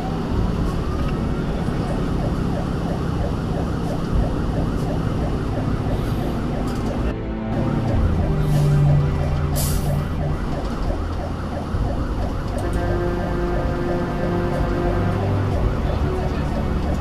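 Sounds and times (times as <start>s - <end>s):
fire engine siren yelping: 0.0s - 17.0s
truck engine running: 0.0s - 17.0s.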